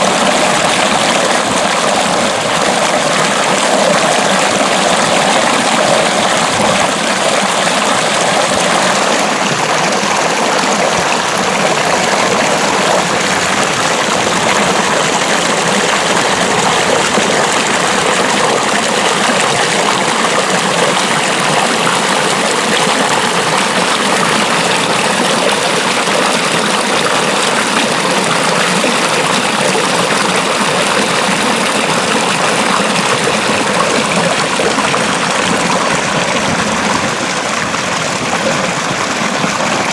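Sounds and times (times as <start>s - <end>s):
water flowing in a ditch: 0.0s - 39.9s.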